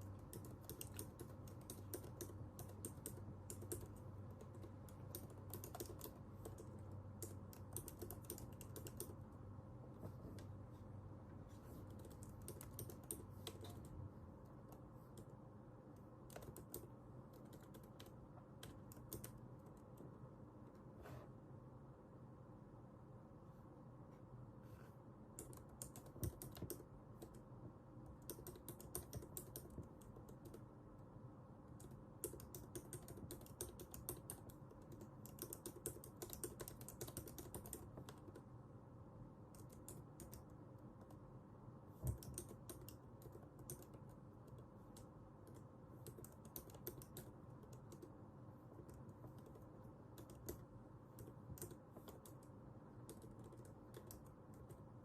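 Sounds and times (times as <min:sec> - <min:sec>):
computer keyboard typing: 0:00.0 - 0:09.4, 0:11.7 - 0:20.1, 0:25.4 - 0:30.7, 0:31.7 - 0:38.6, 0:39.5 - 0:41.3, 0:42.0 - 0:55.0
low steady hum: 0:00.0 - 0:55.0.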